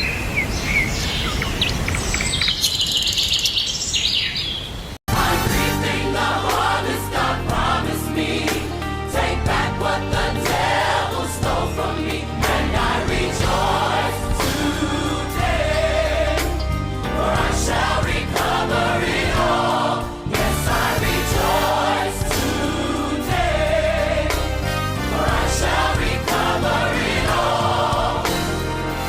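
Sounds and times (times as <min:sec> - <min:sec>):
gospel choir singing: 0:05.1 - 0:29.0.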